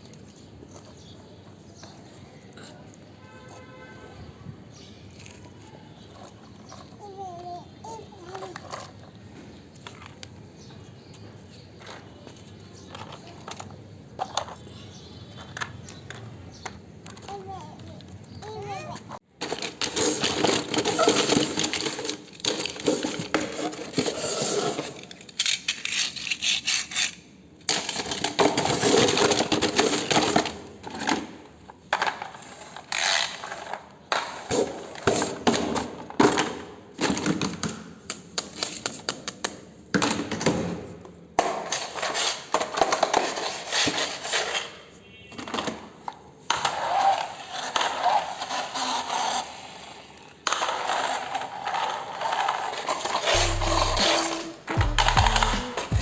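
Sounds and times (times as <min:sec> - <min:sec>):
plastic toy vehicles clattering: 0:00.0 - 0:03.6, 0:04.7 - 0:56.0.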